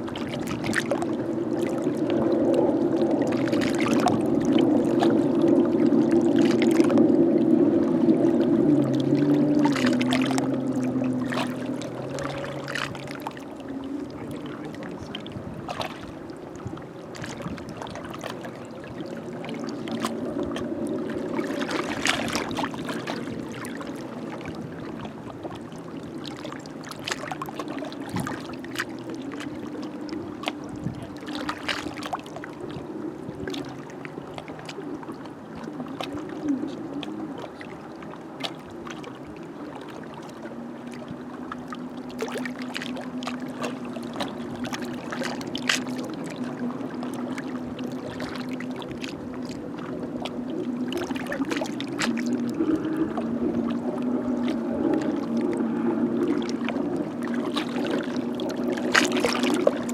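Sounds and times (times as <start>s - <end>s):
boat motor hum: 0.0s - 59.9s
waves lapping against shore: 0.0s - 59.9s.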